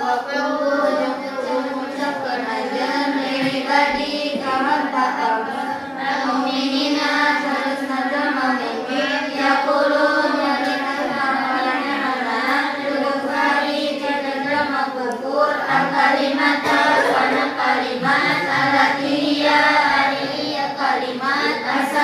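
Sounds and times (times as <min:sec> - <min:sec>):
girls chanting in unison: 0:00.0 - 0:22.0.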